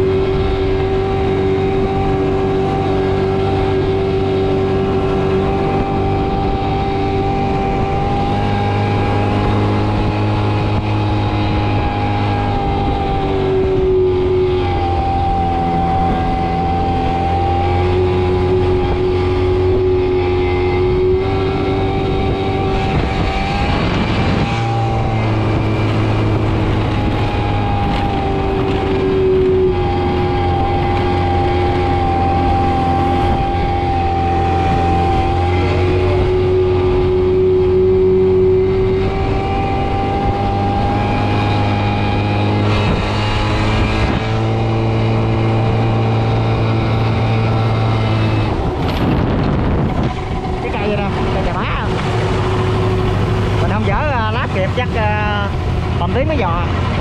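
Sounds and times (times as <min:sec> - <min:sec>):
motorbike engine running: 0:00.0 - 0:57.0
road and wind noise: 0:00.0 - 0:57.0.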